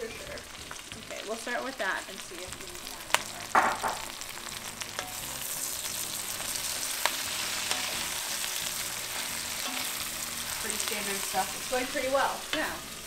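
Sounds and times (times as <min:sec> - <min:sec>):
greens sizzling in hot oil: 0:00.0 - 0:13.0.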